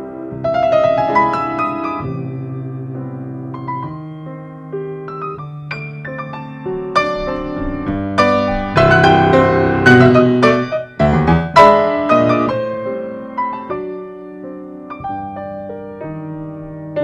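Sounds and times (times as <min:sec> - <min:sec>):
solo piano playing a tango: 0:00.0 - 0:17.0.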